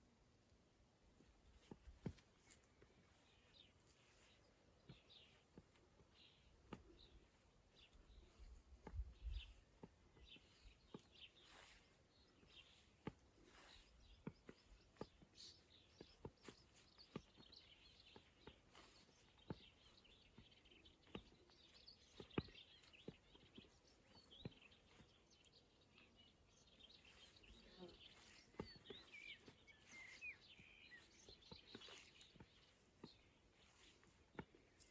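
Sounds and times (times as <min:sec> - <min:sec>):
faint songbirds chirping: 0:00.0 - 0:34.9.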